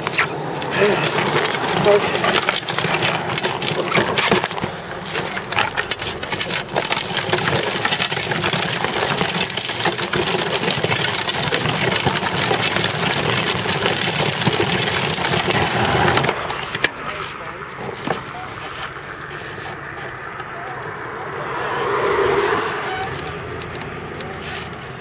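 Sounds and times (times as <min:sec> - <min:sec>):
bicycle tyre rolling on asphalt: 0:00.0 - 0:25.0.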